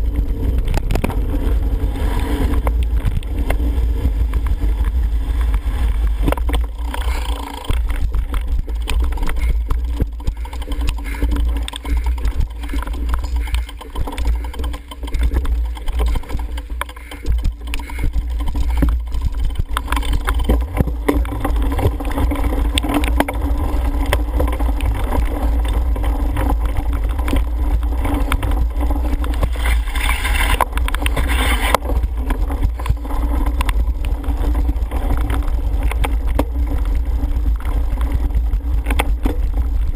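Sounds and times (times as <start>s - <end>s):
bike rattling over bumpy ground: 0.0s - 39.9s.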